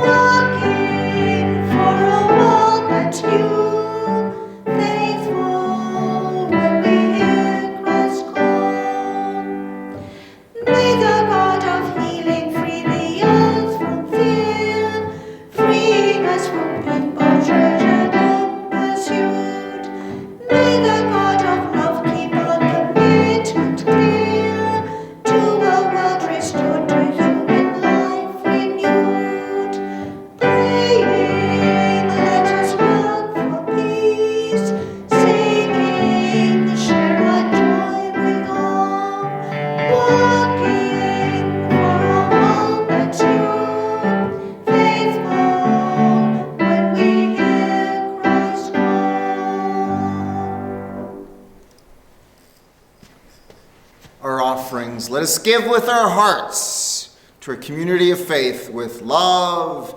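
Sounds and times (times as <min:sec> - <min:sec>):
piano music: 0:00.0 - 0:52.1.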